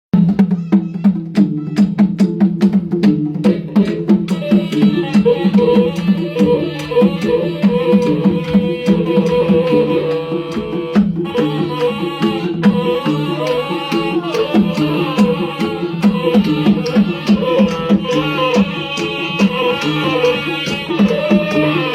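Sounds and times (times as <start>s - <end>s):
drums beating fast rhythm: 0.1s - 21.9s
nasal oboe melody: 4.3s - 21.9s.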